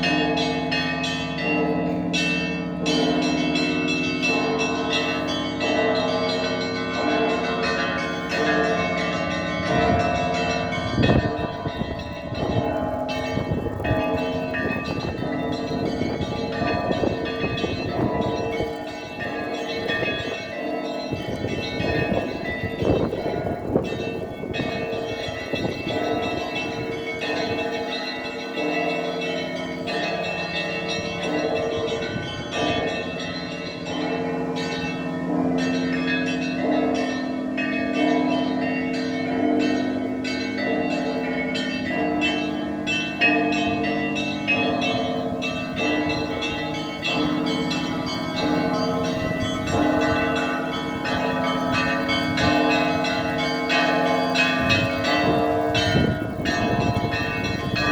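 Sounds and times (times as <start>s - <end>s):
church bells ringing: 0.0s - 57.9s.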